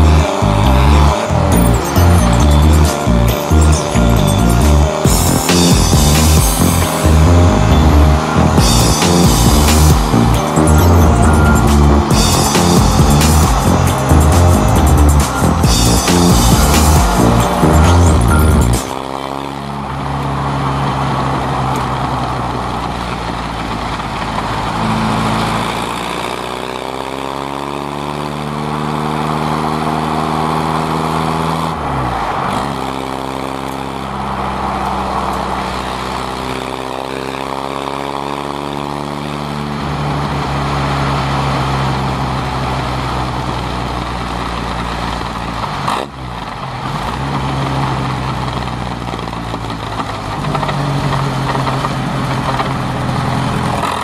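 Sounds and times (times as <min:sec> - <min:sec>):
car engine accelerating: 0:00.0 - 0:54.0
wind and road noise: 0:00.0 - 0:54.0.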